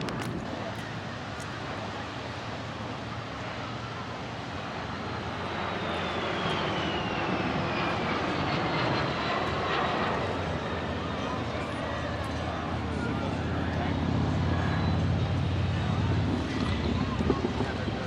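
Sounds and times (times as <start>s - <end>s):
fighter jet flying past: 3.4s - 18.0s.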